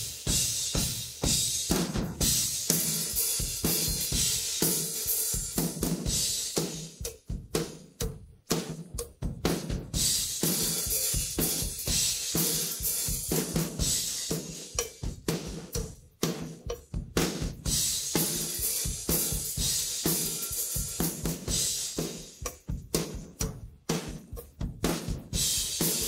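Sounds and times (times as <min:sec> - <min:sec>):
rock drumming: 0:00.0 - 0:26.0.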